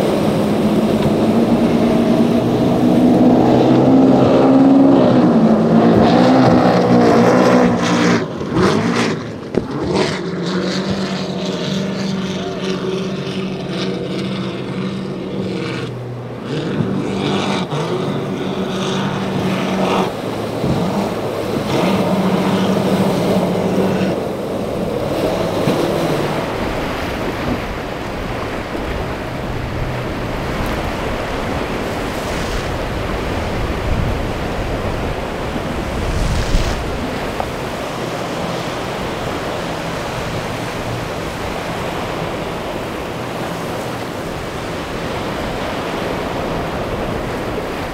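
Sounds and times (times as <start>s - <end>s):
powerboat engines at speed: 0.0s - 47.9s
surf: 0.0s - 47.9s
wind: 0.0s - 47.9s.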